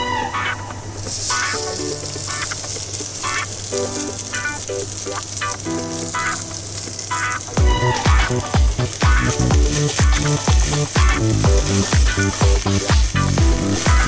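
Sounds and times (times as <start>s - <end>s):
background music: 0.0s - 2.8s, 3.7s - 14.0s
tapioca pearls sizzling in pan: 0.9s - 14.0s.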